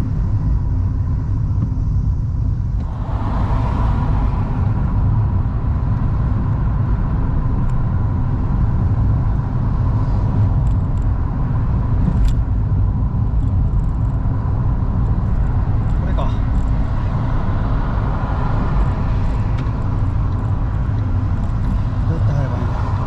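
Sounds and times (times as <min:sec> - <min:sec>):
car engine: 0:00.0 - 0:23.0
road and wind rumble: 0:00.0 - 0:23.0.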